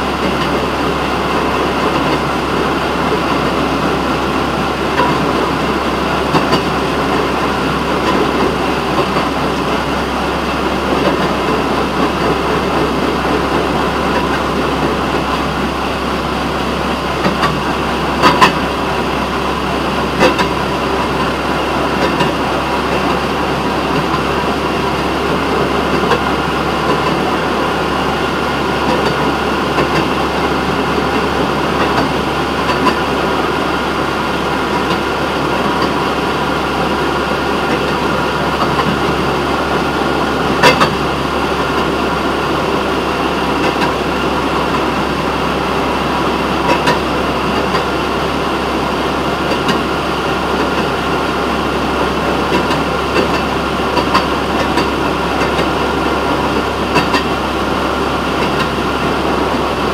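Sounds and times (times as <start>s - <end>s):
railroad motorcar engine and wheels: 0.0s - 59.9s.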